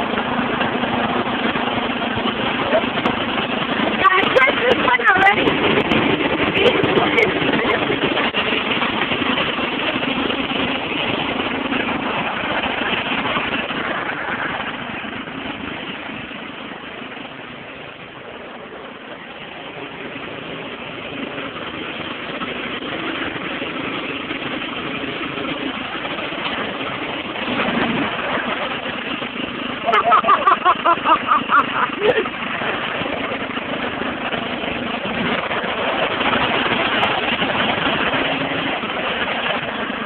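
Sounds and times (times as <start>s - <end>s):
riding lawnmower engine running: 0.0s - 40.0s.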